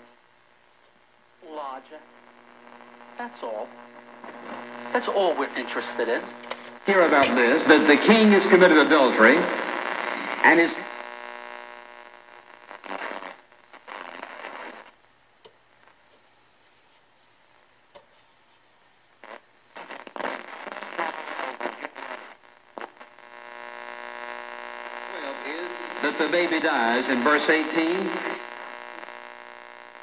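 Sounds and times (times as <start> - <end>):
radio static bursts: 0.0 - 15.0, 19.2 - 30.0
buzzing hum: 0.0 - 15.9, 19.2 - 30.0
scraps of radio station sound: 1.2 - 15.0, 19.2 - 30.0.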